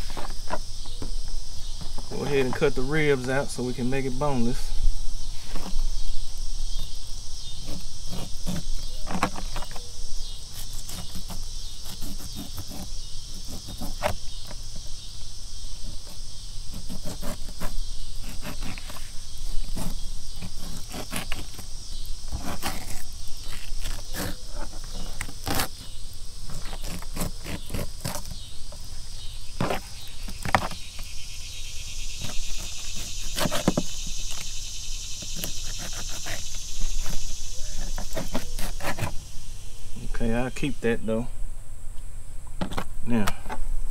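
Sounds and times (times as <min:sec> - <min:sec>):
insects chorus: 0:00.0 - 0:43.9.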